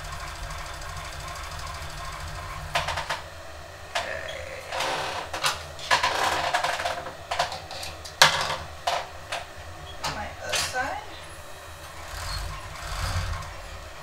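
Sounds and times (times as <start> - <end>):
overlock machine stitching: 0.0 - 9.0, 11.3 - 14.0.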